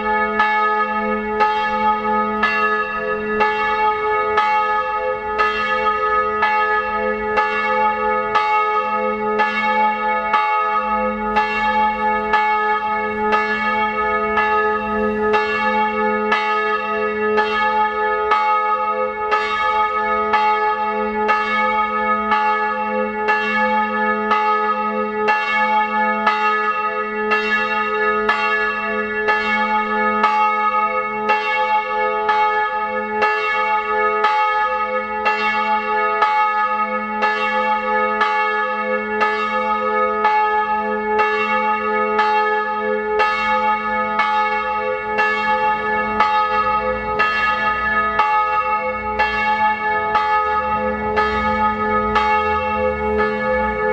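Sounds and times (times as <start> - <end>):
church bell ringing: 0.0 - 53.9.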